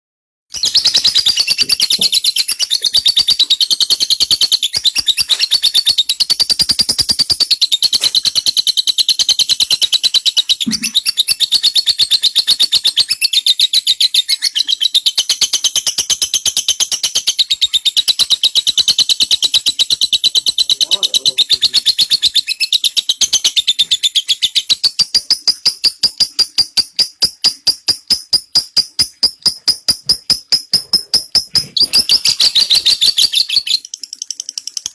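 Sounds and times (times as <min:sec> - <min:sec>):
lovebird chattering: 0:00.6 - 0:34.9.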